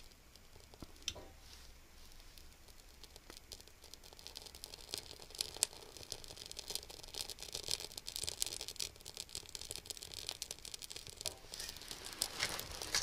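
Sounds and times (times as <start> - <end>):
fire crackling in stove: 0.0 - 13.0.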